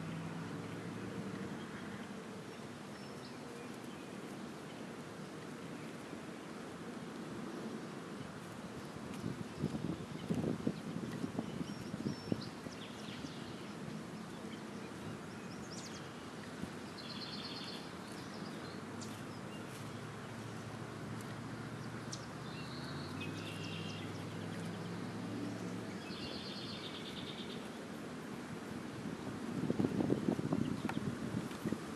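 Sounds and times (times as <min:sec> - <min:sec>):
outdoor background noise: 0:00.0 - 0:31.9.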